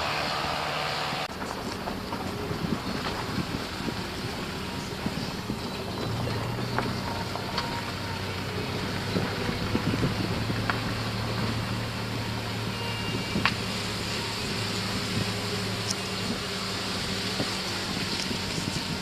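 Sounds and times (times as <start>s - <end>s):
road noise: 0.0s - 19.0s
vehicle engine hum: 0.0s - 19.0s.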